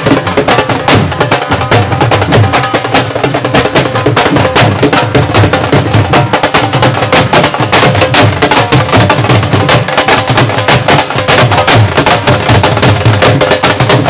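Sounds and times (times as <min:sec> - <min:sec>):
barrel drum beaten with sticks: 0:00.0 - 0:14.0.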